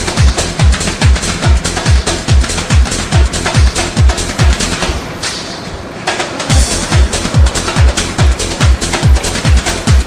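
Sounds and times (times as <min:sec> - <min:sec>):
techno dance music: 0:00.0 - 0:10.0.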